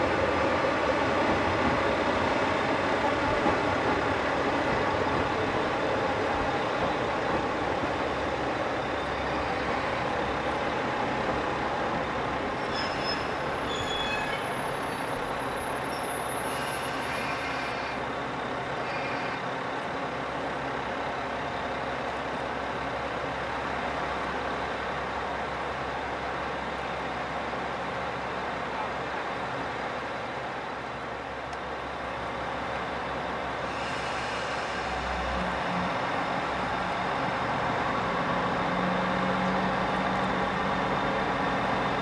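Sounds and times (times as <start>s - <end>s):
diesel train rumbling: 0.0s - 42.0s.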